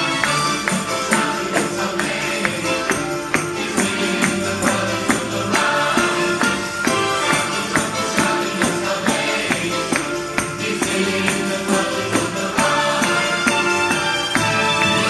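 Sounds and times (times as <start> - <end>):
tambourine jingles: 0.0 - 15.0
worship song with steady beat: 0.0 - 15.0.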